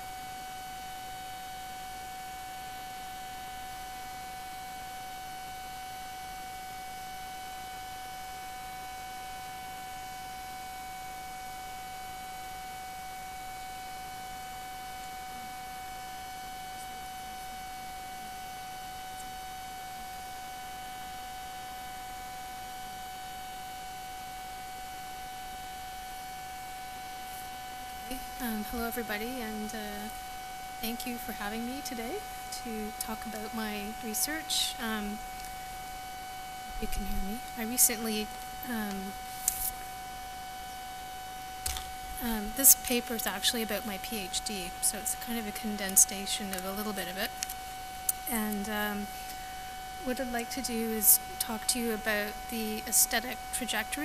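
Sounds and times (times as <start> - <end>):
constant hiss: 0.0 - 54.0
electrical whine: 0.0 - 54.0.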